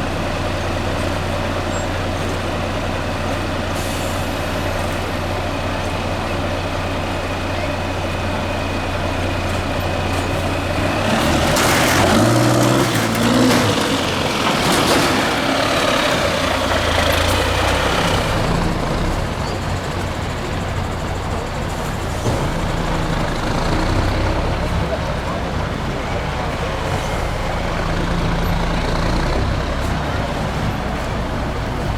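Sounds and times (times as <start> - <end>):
diesel truck engine revving: 0.0 - 31.9.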